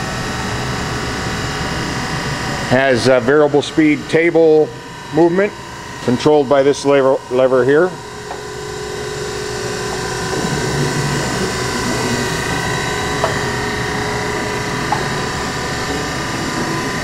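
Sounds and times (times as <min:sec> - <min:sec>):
grinder motor humming: 0:00.9 - 0:17.0.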